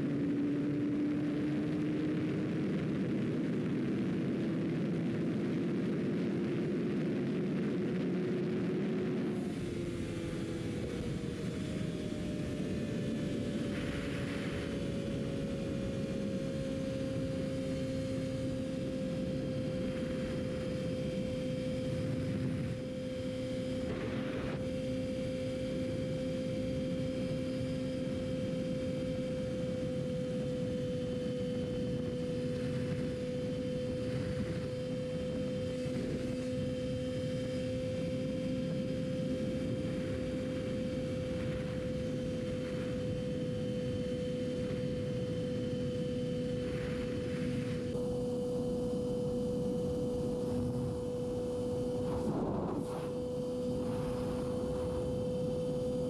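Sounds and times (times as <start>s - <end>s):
wind and road noise: 0.0s - 56.0s
motorcycle engine cruising: 8.4s - 56.0s.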